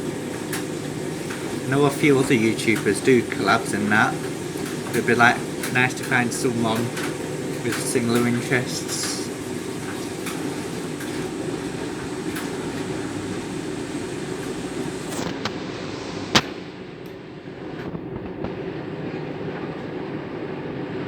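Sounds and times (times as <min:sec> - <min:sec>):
washing machine drum tumbling: 0:00.0 - 0:21.0.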